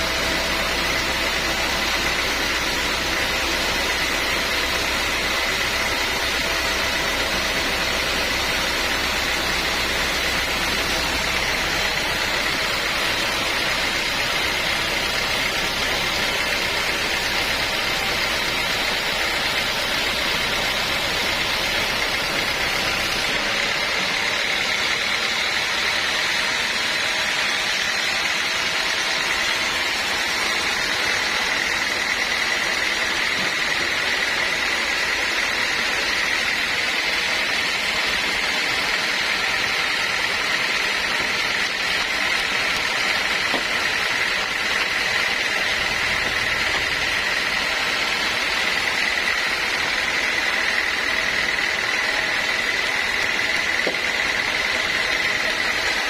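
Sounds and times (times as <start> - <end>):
high mechanical whine: 0.0 - 56.0
sawmill machinery running: 0.0 - 56.0.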